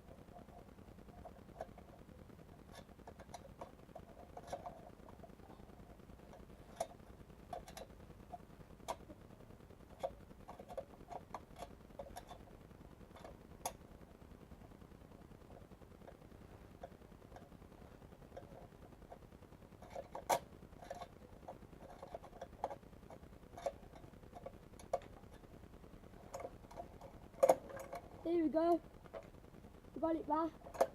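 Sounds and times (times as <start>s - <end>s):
small clicks and knocks: 0.0s - 29.5s, 30.3s - 30.9s.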